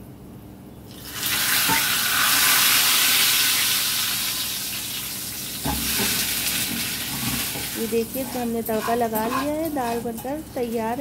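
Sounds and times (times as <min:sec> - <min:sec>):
hot oil sizzling: 0:00.9 - 0:11.0.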